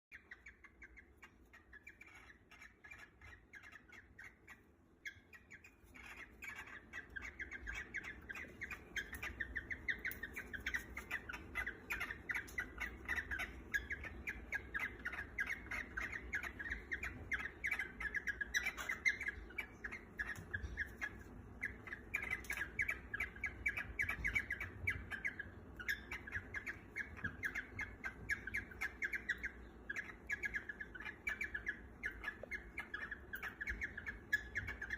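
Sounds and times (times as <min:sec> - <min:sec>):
cockatiels squawking: 0:00.1 - 0:34.9.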